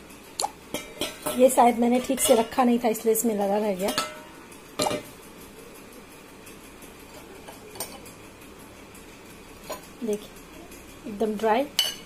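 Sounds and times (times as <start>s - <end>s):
metal utensils clinking: 0.6s - 12.0s.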